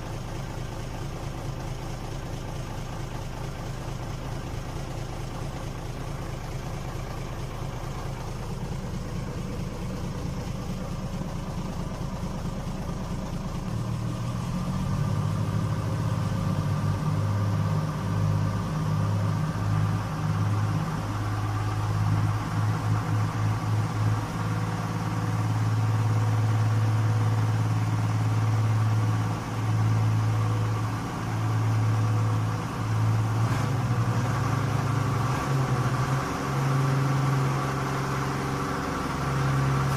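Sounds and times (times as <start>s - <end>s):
low engine hum: 0.0s - 39.9s.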